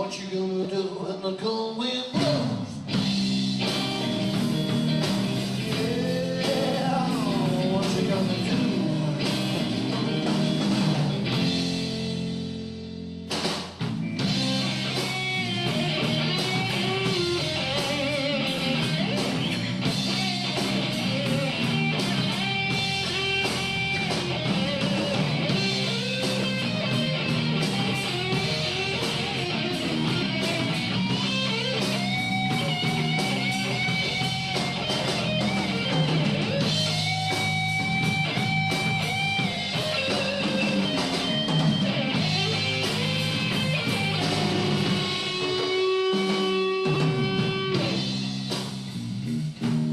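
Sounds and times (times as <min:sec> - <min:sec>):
instrumental rock music: 0:02.0 - 0:49.9.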